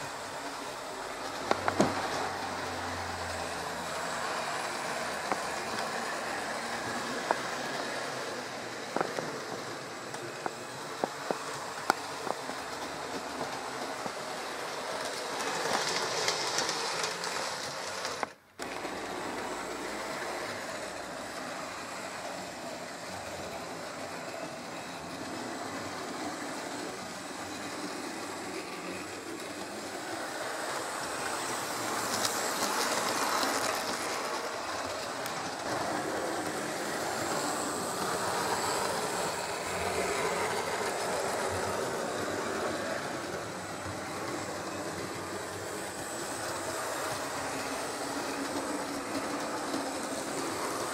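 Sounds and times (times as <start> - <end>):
model train motor whirring: 0.0 - 50.9
wheels clicking on rails: 0.0 - 50.9.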